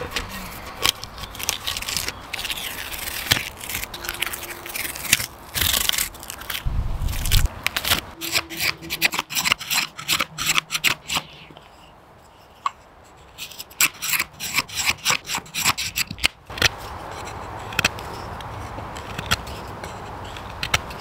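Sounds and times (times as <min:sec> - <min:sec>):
knife shaving wood: 0:00.0 - 0:12.6, 0:13.2 - 0:21.0.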